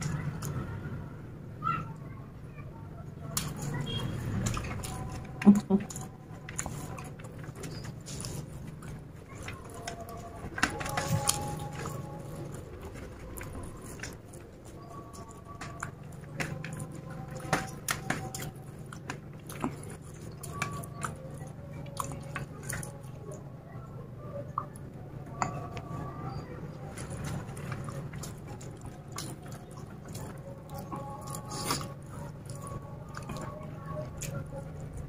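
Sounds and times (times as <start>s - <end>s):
chewing and wet mouth sounds: 0.0s - 1.0s, 3.2s - 35.0s.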